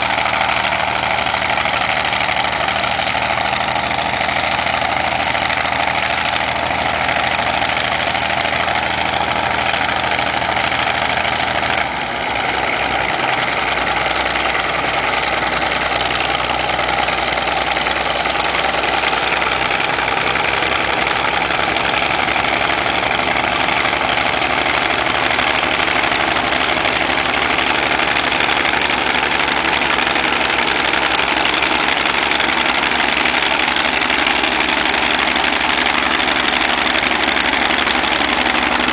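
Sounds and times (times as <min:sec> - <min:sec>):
bulldozer diesel engines running: 0:00.0 - 0:38.9.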